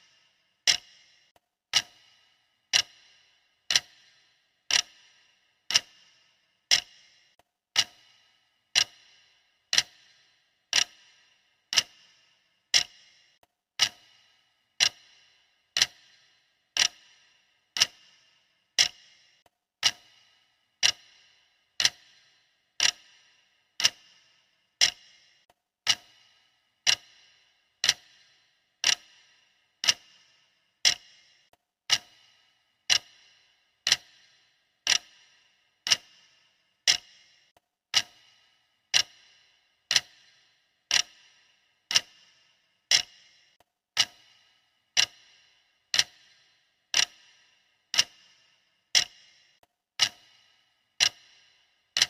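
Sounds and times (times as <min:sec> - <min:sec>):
clock ticking: 0:00.0 - 0:52.0.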